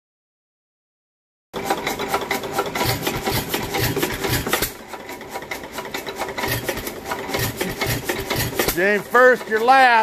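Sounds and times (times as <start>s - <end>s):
old engine ticking clatter: 1.6s - 10.0s.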